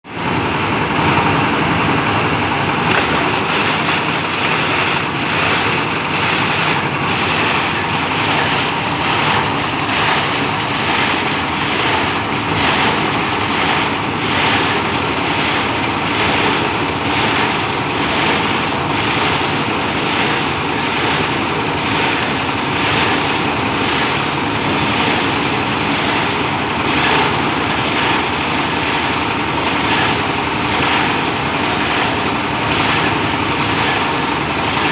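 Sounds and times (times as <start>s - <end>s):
plastic shredder running: 2.6s - 34.9s.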